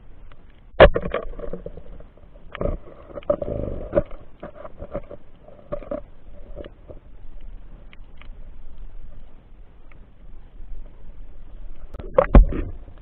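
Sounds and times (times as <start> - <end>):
underwater rushing: 0.0 - 13.0.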